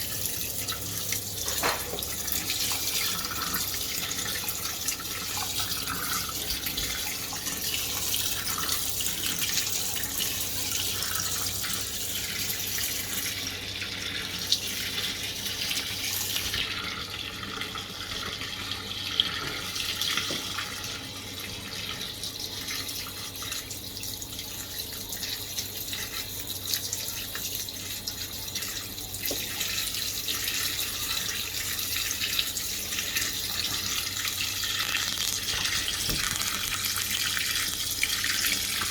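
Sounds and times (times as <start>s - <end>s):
water running into washing machine: 0.0s - 38.9s.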